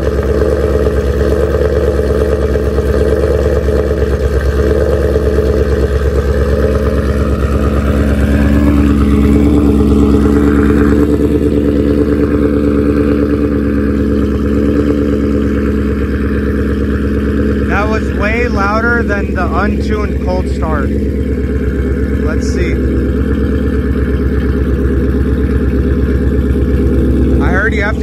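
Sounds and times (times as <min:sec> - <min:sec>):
car engine idling loudly: 0:00.0 - 0:28.0.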